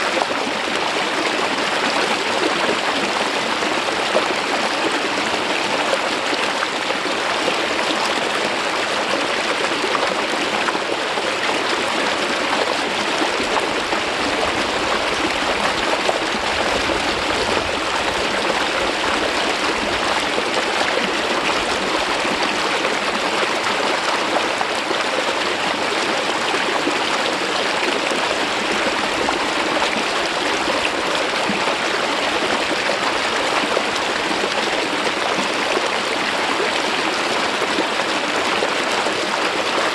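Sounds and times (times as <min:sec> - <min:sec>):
stream water flowing over rock: 0:00.0 - 0:39.9.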